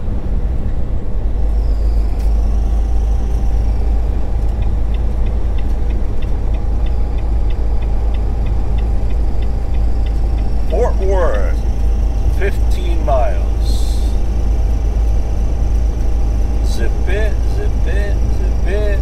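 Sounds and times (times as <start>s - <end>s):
truck engine and road rumble: 0.0s - 19.0s
turn signal ticking: 1.4s - 19.0s.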